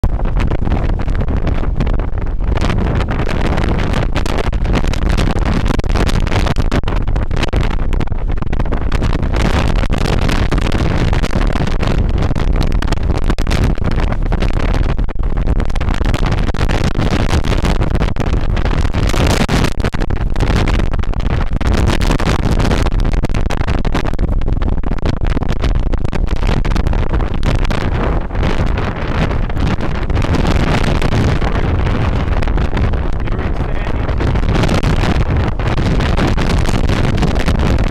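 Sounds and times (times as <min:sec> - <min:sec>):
gusty wind buffeting microphone: 0:00.0 - 0:37.9.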